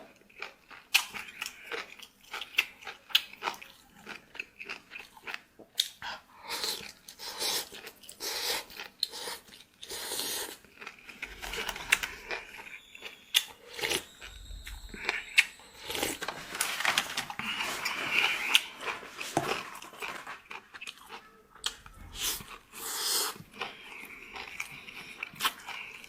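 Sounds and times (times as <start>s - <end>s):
person chewing and crunching food: 0.0s - 26.0s.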